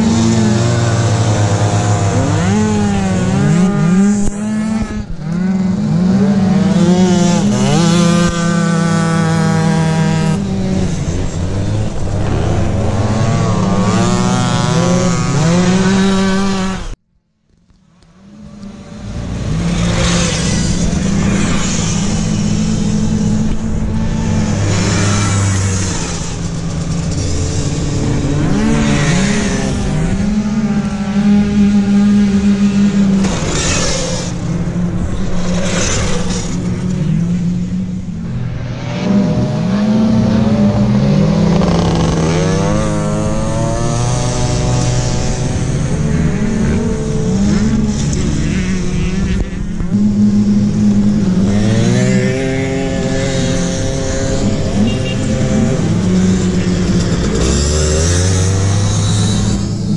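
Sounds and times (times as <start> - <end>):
two-stroke scooter engines revving: 0.0 - 17.0, 18.1 - 59.9.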